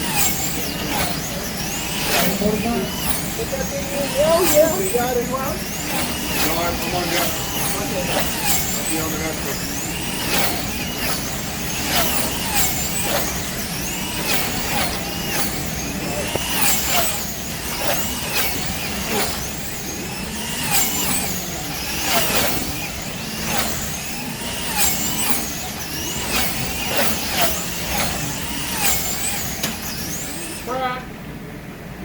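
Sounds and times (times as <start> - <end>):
slot car motors whining: 0.0 - 32.0.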